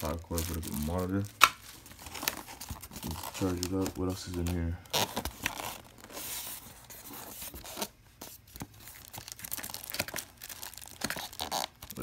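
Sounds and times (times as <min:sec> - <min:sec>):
cardboard box rustling and crinkling: 0:00.0 - 0:12.0.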